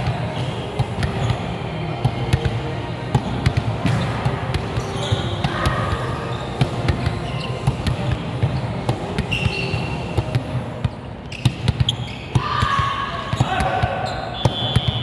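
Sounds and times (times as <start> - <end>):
shoes squeaking on court: 0.3 - 1.7, 3.2 - 12.4, 13.2 - 15.0.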